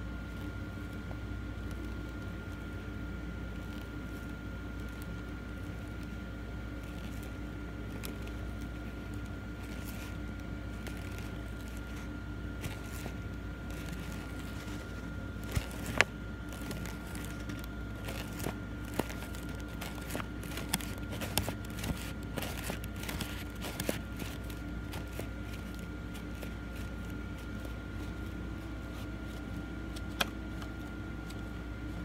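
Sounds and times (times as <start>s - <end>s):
background hum: 0.0s - 32.0s
paper rustling and crinkling: 0.2s - 32.0s.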